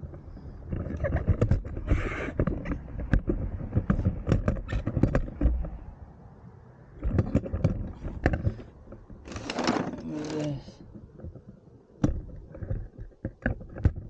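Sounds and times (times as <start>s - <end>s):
knocks and clicks of handling: 0.1s - 5.8s, 7.0s - 14.0s.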